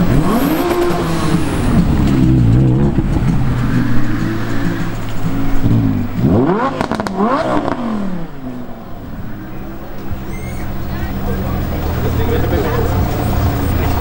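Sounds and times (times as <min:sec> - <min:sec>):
car engine revving: 0:00.0 - 0:14.0
exhaust crackle: 0:00.0 - 0:14.0.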